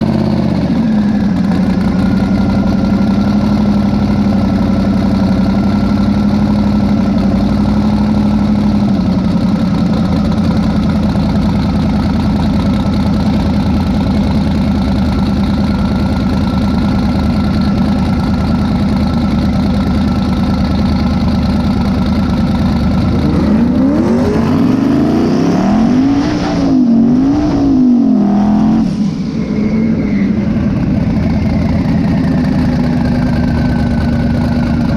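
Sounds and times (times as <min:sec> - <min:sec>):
pickup engine idling and revving: 0:00.0 - 0:34.9.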